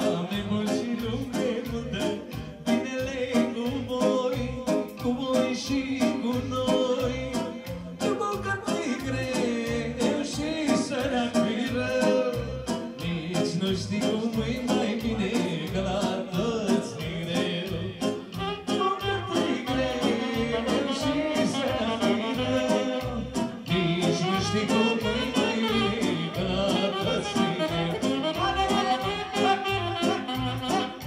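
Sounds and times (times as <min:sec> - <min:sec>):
dance music with steady beat: 0:00.0 - 0:31.0
man singing into microphone: 0:00.0 - 0:31.0.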